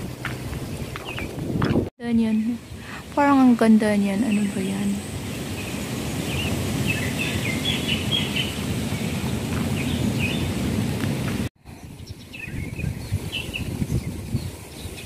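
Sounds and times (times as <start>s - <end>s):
wind buffeting microphone: 0.0s - 15.0s
small birds chirping: 0.2s - 10.6s, 11.7s - 15.0s.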